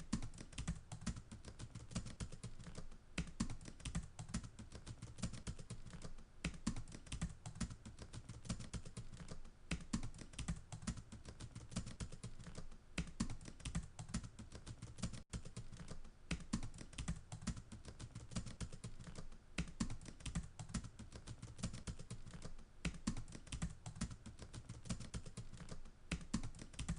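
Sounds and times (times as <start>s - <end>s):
fast typing on a keyboard: 0.0s - 26.9s.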